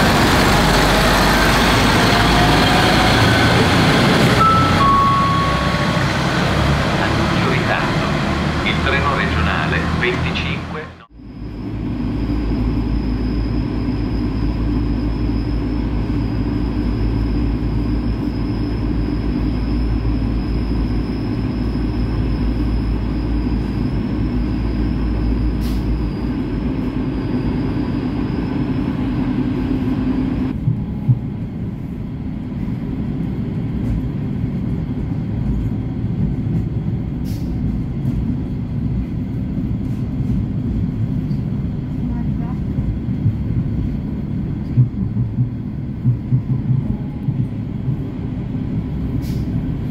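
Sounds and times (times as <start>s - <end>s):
diesel engine drone: 0.0s - 49.9s.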